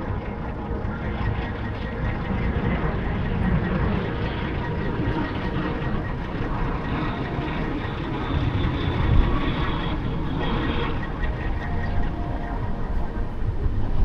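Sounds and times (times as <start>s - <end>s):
faint high whine: 0.0s - 14.0s
road and engine rumble: 0.0s - 14.0s.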